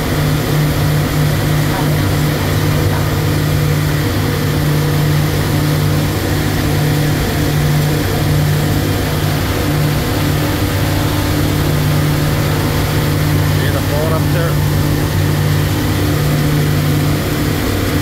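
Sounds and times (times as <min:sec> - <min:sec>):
boat engine drone: 0:00.0 - 0:18.0
rushing wind and water: 0:00.0 - 0:18.0.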